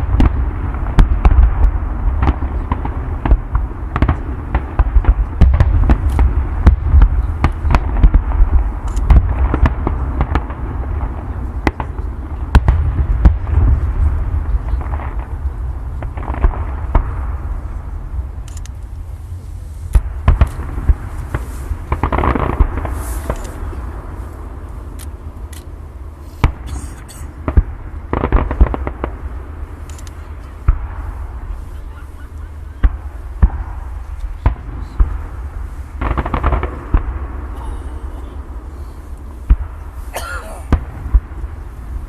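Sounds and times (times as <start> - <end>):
crackling firework pops: 0.0 - 19.0, 19.9 - 23.9, 26.4 - 31.6, 32.3 - 35.3, 35.9 - 37.6, 39.1 - 40.0, 40.7 - 41.6
firework bangs: 0.0 - 42.0
low rumble: 0.0 - 42.0.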